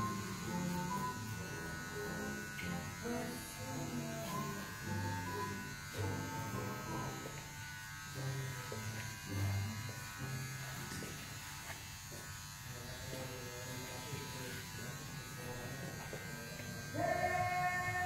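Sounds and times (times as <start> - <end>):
electric buzz: 0.0 - 18.0
razor scraping beard stubble: 0.0 - 18.0.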